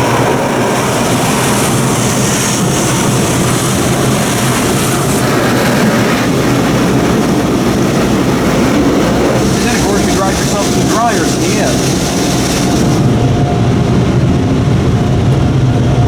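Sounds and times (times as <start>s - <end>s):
car wash rushing noise: 0.0s - 16.0s.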